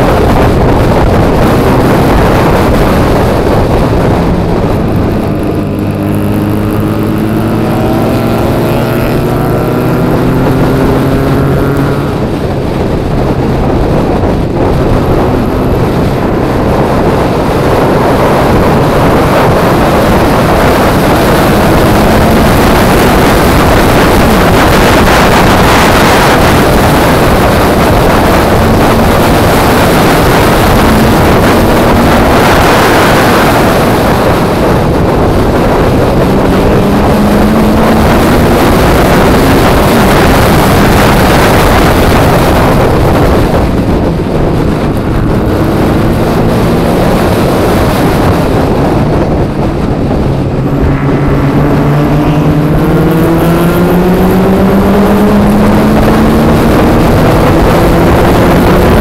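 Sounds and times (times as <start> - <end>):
car engine revving: 0.0 - 59.0
wind rushing over microphone: 0.0 - 59.0.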